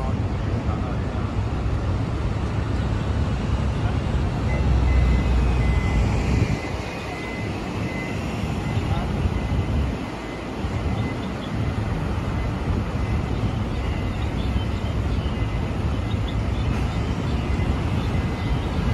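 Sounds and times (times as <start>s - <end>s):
street traffic rumble: 0.0s - 18.9s.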